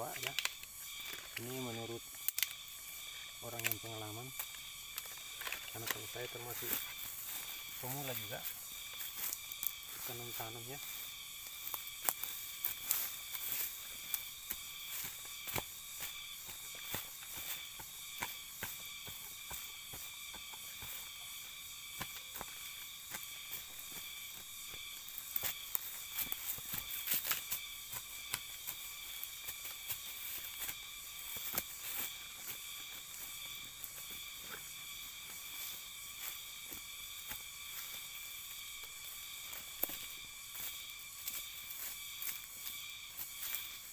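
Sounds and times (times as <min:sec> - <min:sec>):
dry mulch rustling and crackling: 0:00.0 - 0:43.9
insect drone: 0:00.0 - 0:43.9.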